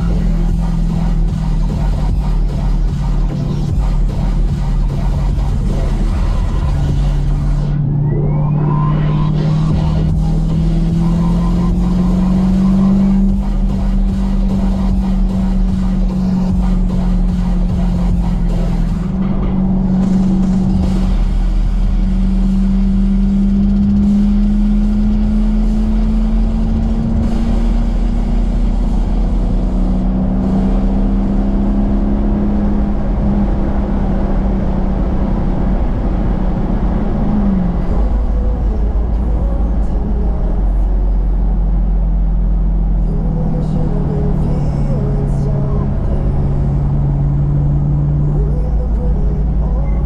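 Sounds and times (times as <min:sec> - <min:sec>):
car exhaust droning: 0:00.0 - 0:50.0.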